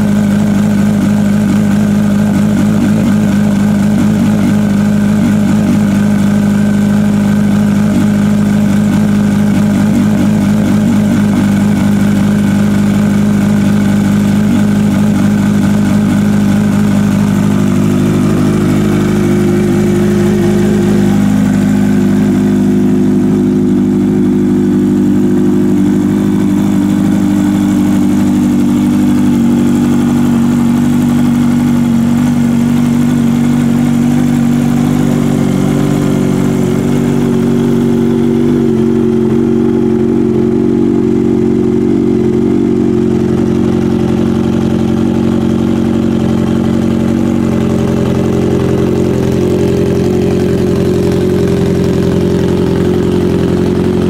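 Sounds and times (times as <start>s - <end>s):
motorcycle engine idling loudly: 0.0s - 54.0s.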